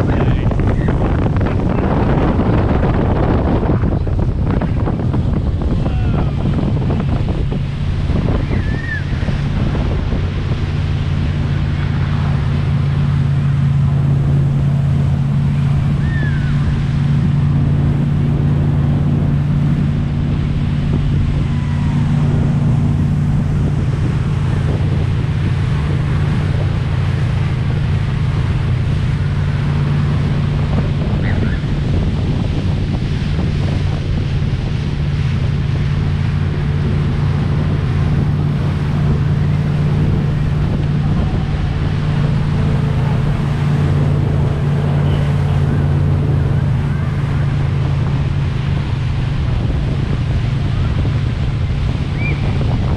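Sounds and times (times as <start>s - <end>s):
motorboat engine humming: 0.0s - 52.9s
rushing water: 0.0s - 52.9s
wind buffeting microphone: 0.0s - 52.9s.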